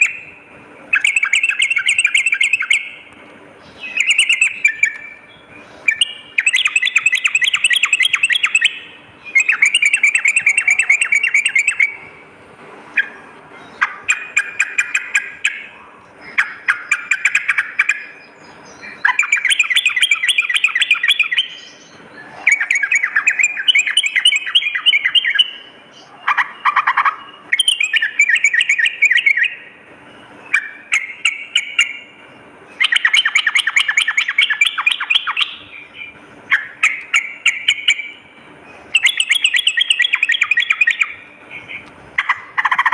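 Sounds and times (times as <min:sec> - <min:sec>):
bulbul chattering song: 0:00.0 - 0:42.9.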